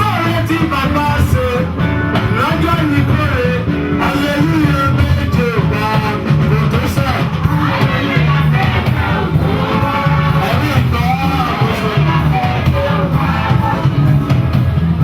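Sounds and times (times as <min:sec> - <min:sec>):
bass: 0:00.0 - 0:15.0
guitar: 0:00.0 - 0:15.0
people singing: 0:00.0 - 0:15.0
steady drum beat: 0:00.0 - 0:15.0.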